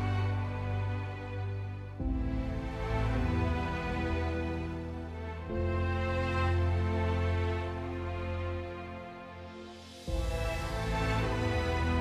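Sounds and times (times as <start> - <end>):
slow music of held chords: 0.0 - 12.0.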